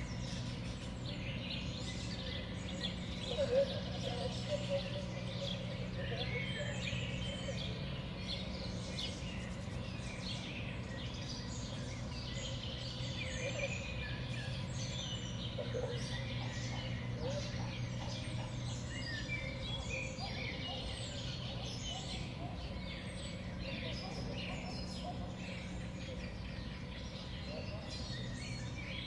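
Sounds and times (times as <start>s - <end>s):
small songbirds chirping: 0.0s - 29.0s.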